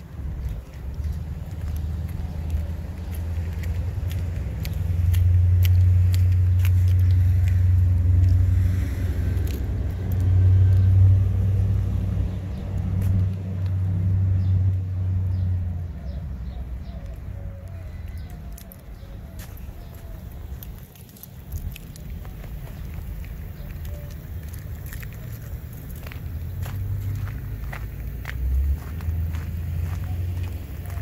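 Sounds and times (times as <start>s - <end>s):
engine rumbling: 0.0s - 31.0s.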